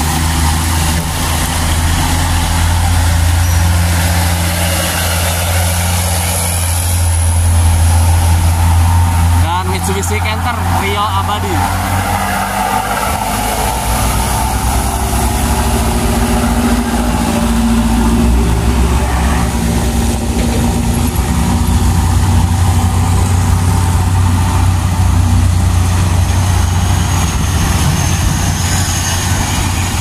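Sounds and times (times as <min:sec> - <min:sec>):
deep heavy truck engine: 0:00.0 - 0:30.0
dump truck engines driving past: 0:00.0 - 0:30.0.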